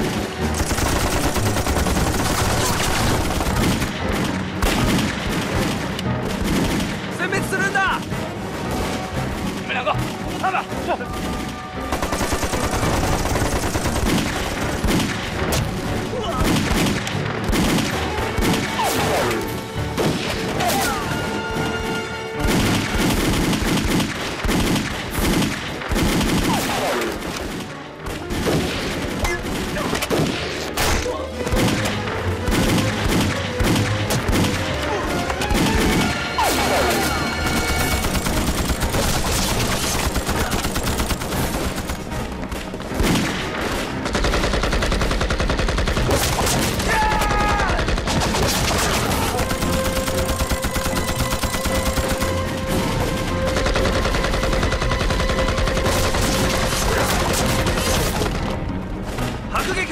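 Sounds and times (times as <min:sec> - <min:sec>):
rapid gunfire: 0:00.0 - 0:58.6.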